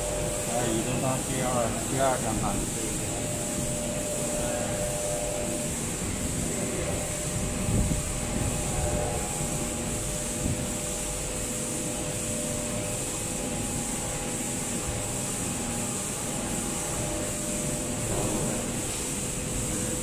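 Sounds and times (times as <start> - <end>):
machine running hum: 0.0 - 20.0.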